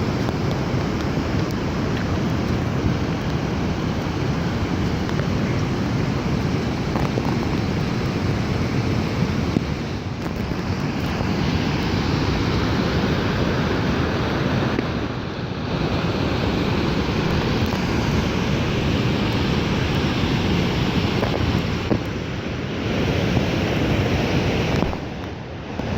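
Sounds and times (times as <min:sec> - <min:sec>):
rain and water rushing: 0:00.0 - 0:25.9.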